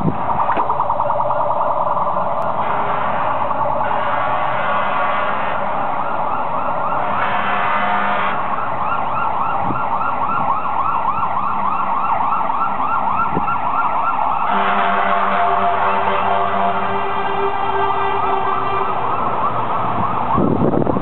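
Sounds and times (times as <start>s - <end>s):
fire engine sirens wailing: 0.0s - 21.0s
siren fast yelp: 0.0s - 21.0s
traffic noise: 0.0s - 21.0s.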